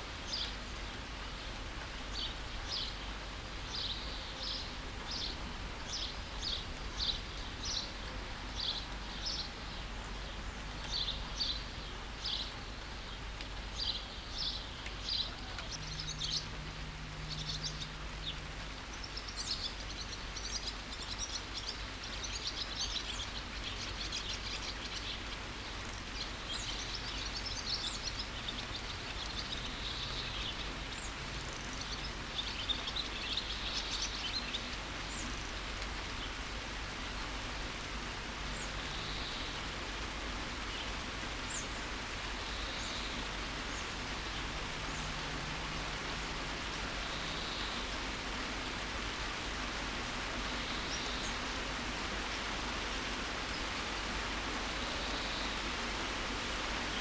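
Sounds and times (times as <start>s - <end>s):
steady rain hiss: 0.0s - 57.0s
birds chirping: 0.3s - 37.2s, 37.8s - 57.0s.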